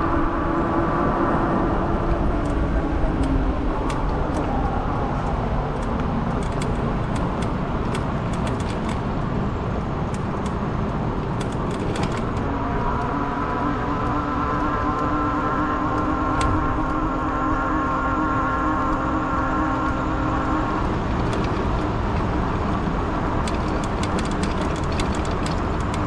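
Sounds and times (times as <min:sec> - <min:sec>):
wind and road noise: 0:00.0 - 0:26.0.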